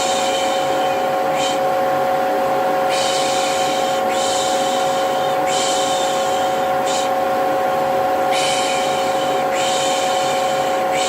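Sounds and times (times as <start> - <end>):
vacuum cleaner humming: 0.0 - 11.0.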